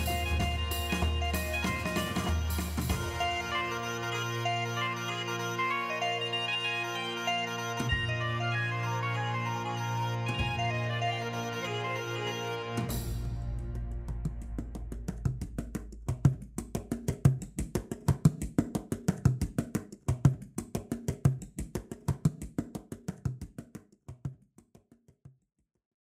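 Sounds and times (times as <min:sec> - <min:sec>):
percussive music: 0:00.0 - 0:25.2.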